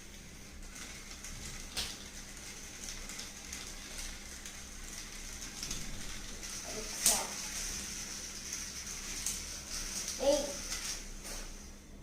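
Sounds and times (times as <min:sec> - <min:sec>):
faint crackling rustling noise: 0:00.0 - 0:12.0.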